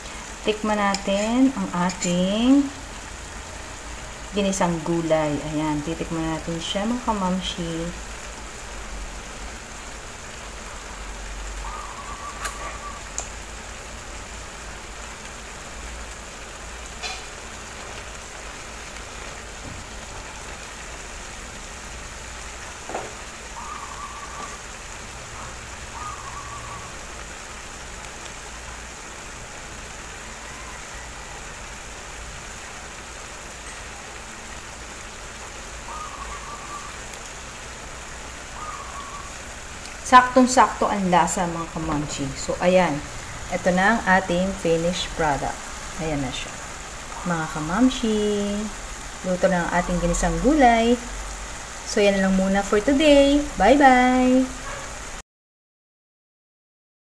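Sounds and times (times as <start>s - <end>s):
stew simmering in a pan: 0.0s - 55.2s.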